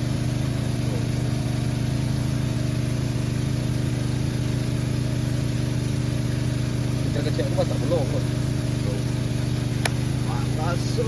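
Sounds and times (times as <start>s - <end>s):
water pump engine running: 0.0s - 11.0s.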